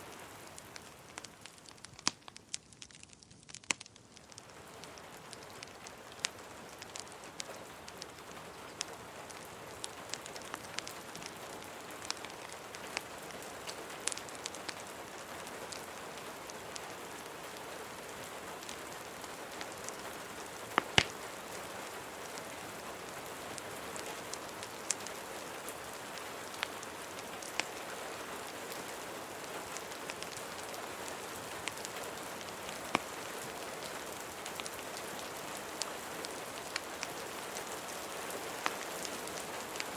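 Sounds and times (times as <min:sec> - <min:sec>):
steady rain falling: 0:00.0 - 0:39.9
wood fire crackling and popping: 0:00.0 - 0:39.9.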